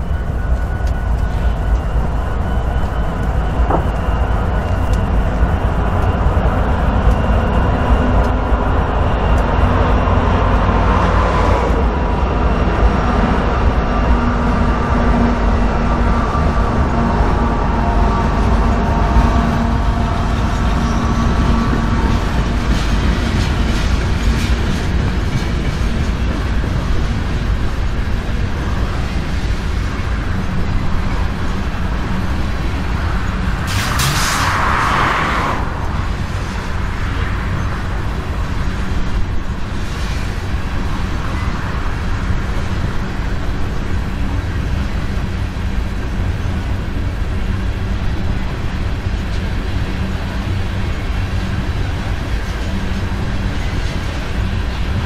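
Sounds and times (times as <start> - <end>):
diesel locomotives passing: 0.0 - 55.0
train wheels rumbling on rail: 0.0 - 55.0.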